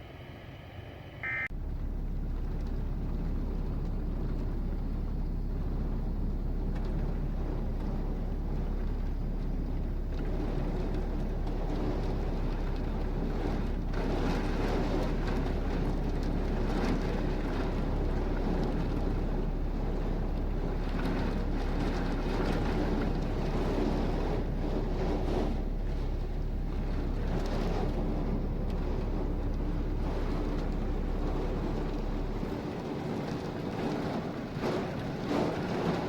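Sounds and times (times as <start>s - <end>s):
wind rumble on microphone: 1.2s - 36.0s
heavy rain pouring: 2.1s - 36.0s.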